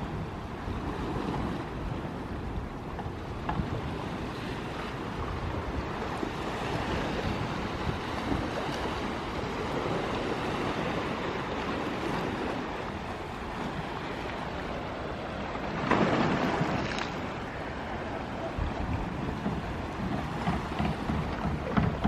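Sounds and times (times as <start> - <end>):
sea waves washing on beach: 0.0 - 22.0.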